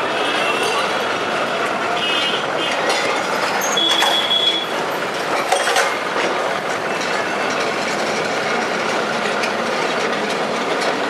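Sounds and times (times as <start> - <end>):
tram rumbling on rails: 0.0 - 11.0.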